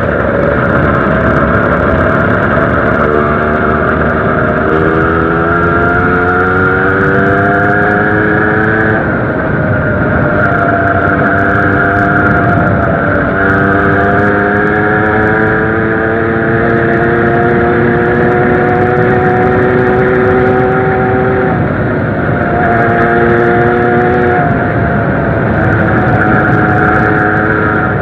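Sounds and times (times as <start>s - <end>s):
moped engine running: 0.0s - 28.0s.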